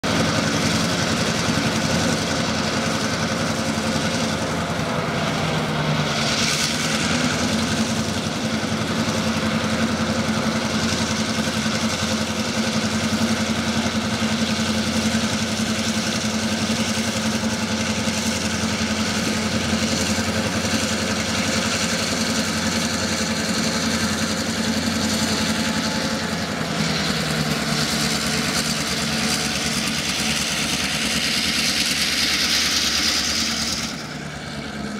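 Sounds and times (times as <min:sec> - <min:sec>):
diesel locomotive engine drone: 0:00.0 - 0:34.9.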